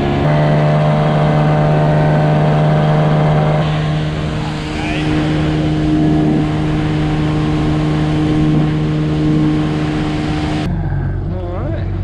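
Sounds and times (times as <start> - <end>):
outboard motor running: 0.0 - 10.7.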